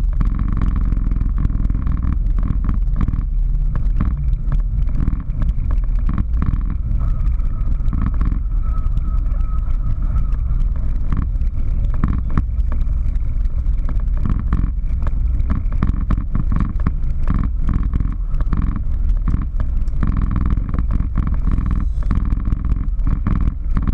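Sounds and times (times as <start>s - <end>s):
aircraft engine and airflow rumble: 0.0s - 23.7s
small clicks and rattles: 0.0s - 23.9s.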